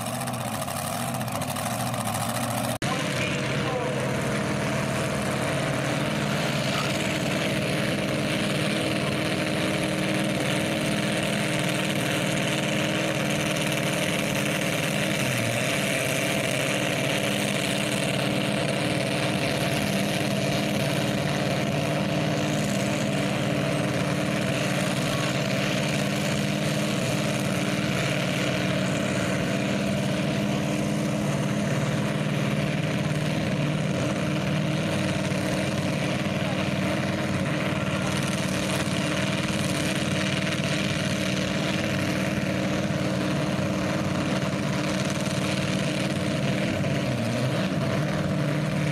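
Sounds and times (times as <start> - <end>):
large engine idling: 0.0 - 48.9.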